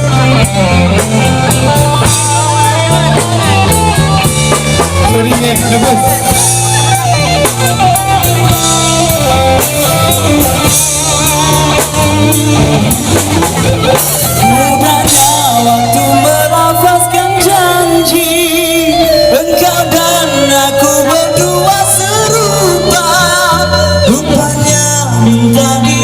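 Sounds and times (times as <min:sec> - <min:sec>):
bass: 0:00.0 - 0:26.0
drum kit: 0:00.0 - 0:26.0
guitar melody: 0:00.0 - 0:26.0.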